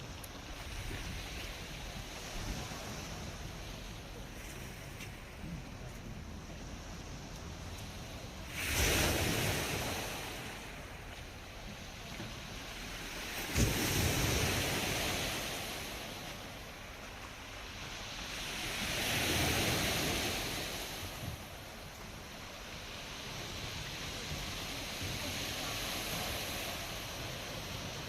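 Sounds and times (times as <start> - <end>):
waves breaking on shore: 0.0 - 28.0.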